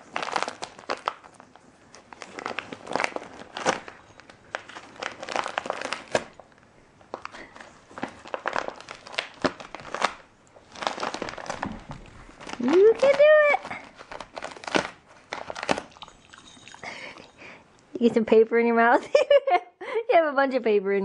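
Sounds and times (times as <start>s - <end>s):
wrapping paper crinkling: 0.0s - 17.2s.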